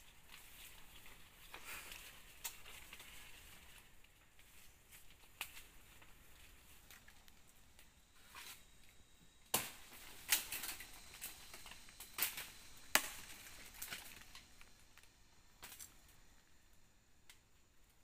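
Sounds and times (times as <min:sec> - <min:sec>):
dry sticks and leaves crunching: 0:00.0 - 0:08.8, 0:09.5 - 0:16.1.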